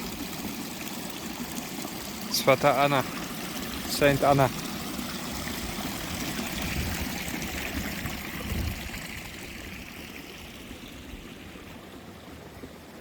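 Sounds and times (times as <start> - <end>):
running water trickling: 0.0 - 13.0.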